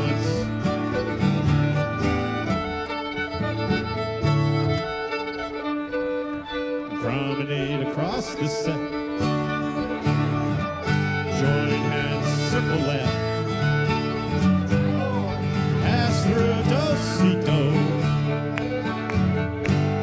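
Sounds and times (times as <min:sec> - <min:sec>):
fiddle melody: 0:00.0 - 0:20.0
string band playing a reel: 0:00.0 - 0:20.0.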